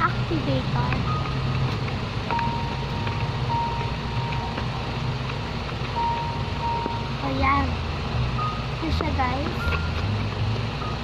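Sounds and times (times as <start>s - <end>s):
high steady tone: 0.0s - 11.0s
low mechanical hum: 0.0s - 11.0s.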